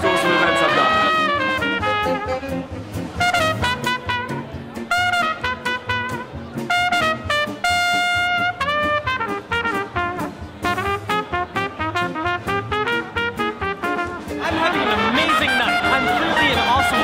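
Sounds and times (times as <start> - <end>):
jazz band playing: 0.0 - 17.0
trumpet: 0.0 - 17.0.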